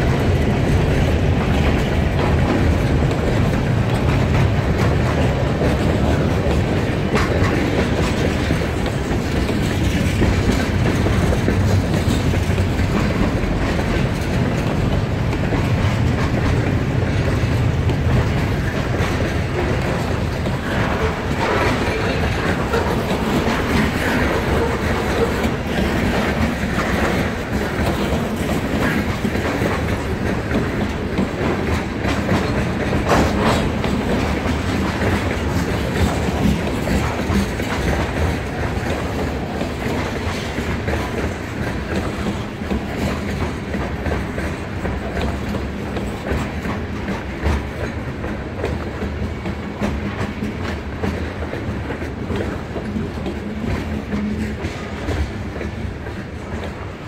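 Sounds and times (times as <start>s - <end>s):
train wheels rumbling on rails: 0.0s - 57.0s
wheels clattering over rail joints: 0.0s - 57.0s.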